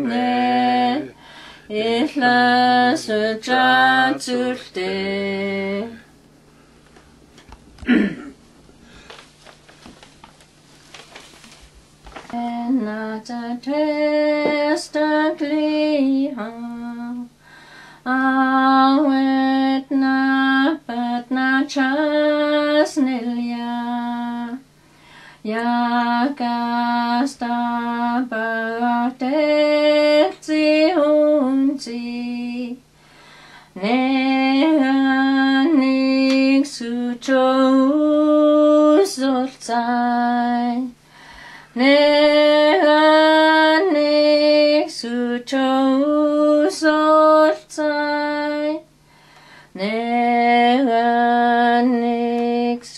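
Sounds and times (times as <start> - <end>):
woman singing a hymn unaccompanied: 0.0 - 6.1, 12.1 - 17.4, 18.0 - 32.9, 33.6 - 49.0, 49.7 - 52.9.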